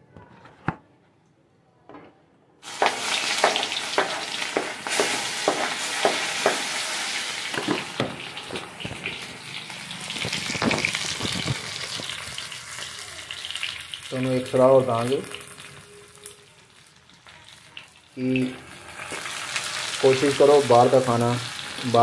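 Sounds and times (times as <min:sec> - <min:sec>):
oil crackles and pops: 0:02.6 - 0:22.0
onions sizzling in hot oil: 0:02.6 - 0:22.0.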